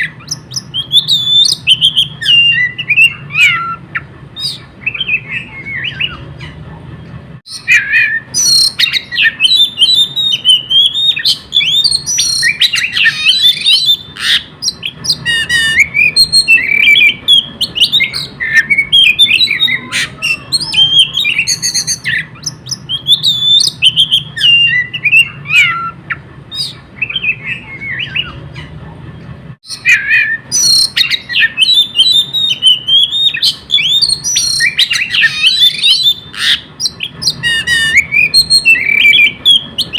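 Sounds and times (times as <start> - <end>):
bird singing varied chirps: 0.0 - 39.9.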